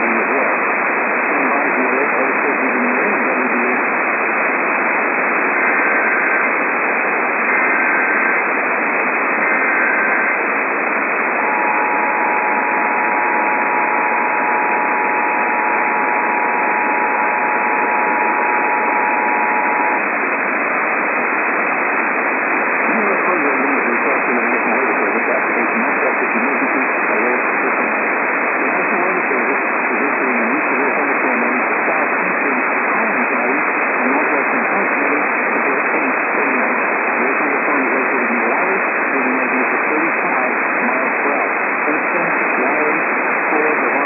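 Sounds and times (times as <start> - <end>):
radio static hiss: 0.0 - 44.0.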